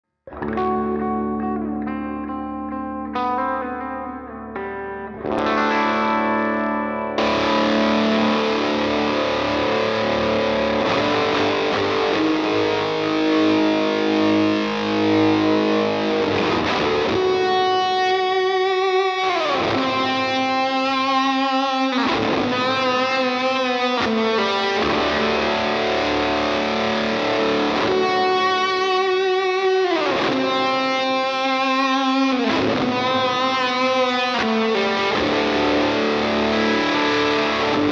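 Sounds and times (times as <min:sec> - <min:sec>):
distorted electric guitar tones: 0:00.3 - 0:37.9.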